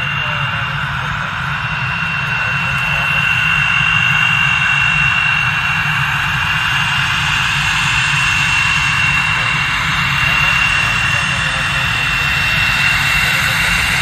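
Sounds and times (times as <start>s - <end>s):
jet engines whining and roaring: 0.0s - 14.0s.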